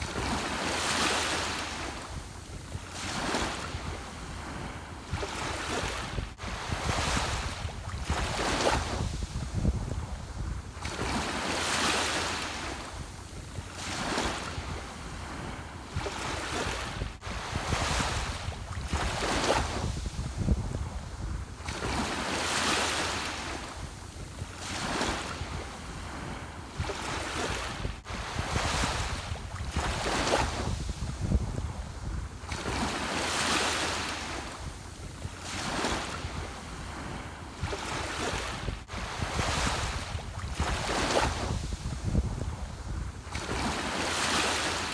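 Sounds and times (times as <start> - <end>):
ocean waves breaking: 0.0 - 44.9
wind rumble on microphone: 0.0 - 44.9.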